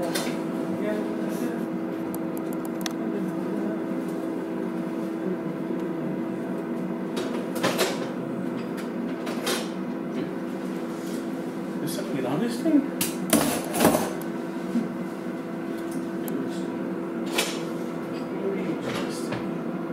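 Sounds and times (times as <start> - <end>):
appliance hum: 0.0 - 19.9.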